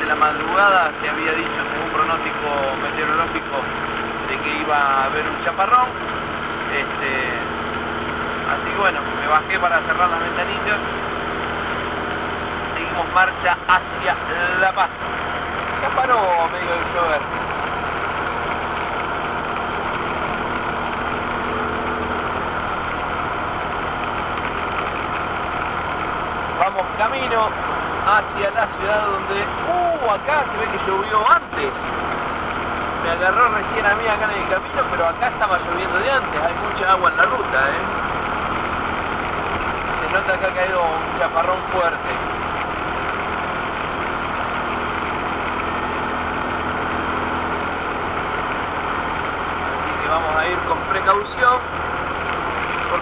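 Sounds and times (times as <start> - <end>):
engine drone: 0.0 - 53.0.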